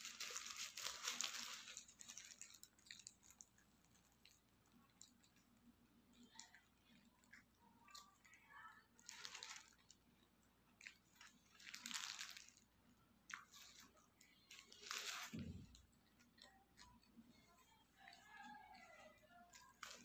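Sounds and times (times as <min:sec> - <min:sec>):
paper wrapper crinkling: 0:00.0 - 0:05.4, 0:07.3 - 0:20.0.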